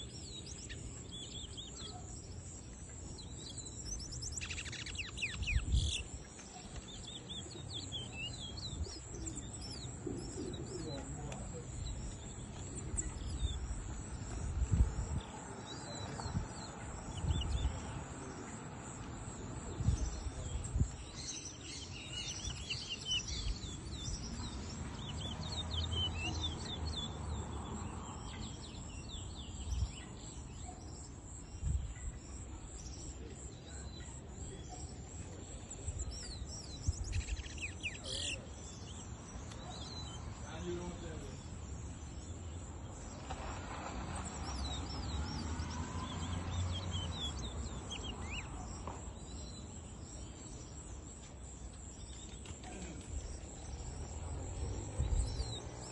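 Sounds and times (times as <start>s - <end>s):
finch singing high chirps: 0.0s - 18.6s, 19.7s - 43.3s, 44.1s - 55.9s.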